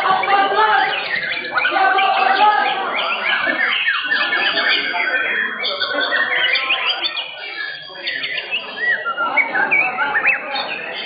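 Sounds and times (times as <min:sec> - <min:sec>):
bird whistled song: 0:00.0 - 0:11.0
crowd chatter: 0:00.0 - 0:11.0.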